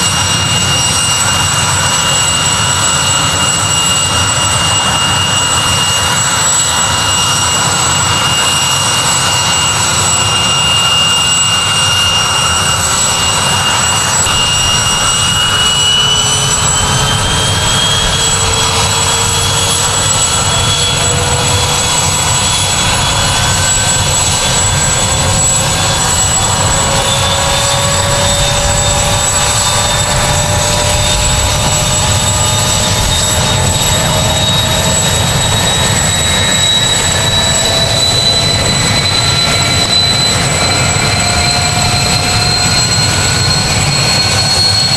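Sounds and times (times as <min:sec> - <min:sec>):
helicopter turbine engines whining: 0:00.0 - 0:44.9.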